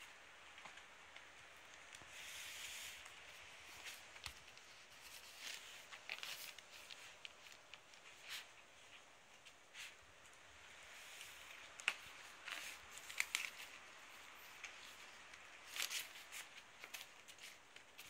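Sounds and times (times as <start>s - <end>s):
puppy paws scratching paper: 0.5s - 18.0s.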